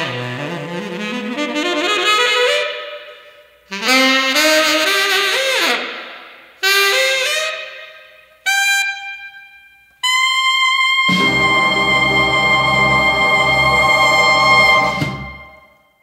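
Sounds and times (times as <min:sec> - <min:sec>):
jazz brass and saxophone music: 0:00.0 - 0:07.8, 0:10.0 - 0:15.7.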